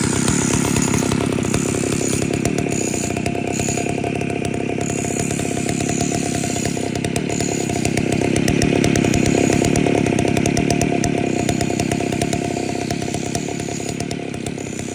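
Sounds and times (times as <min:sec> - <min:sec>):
chainsaw running: 0:00.0 - 0:14.9.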